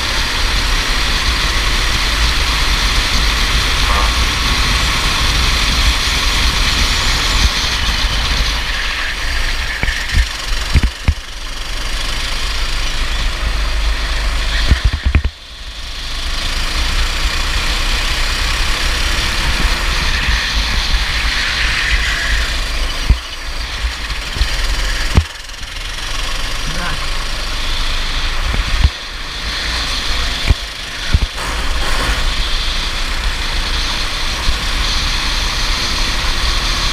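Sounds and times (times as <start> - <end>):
go-kart engine: 0.0 - 36.9.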